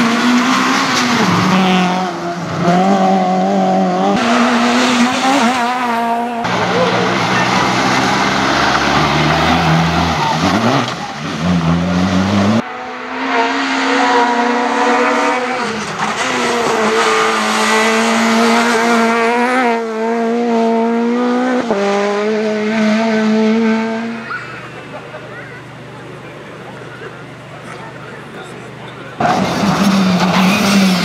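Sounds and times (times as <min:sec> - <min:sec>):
rally car revving high: 0:00.0 - 0:31.0.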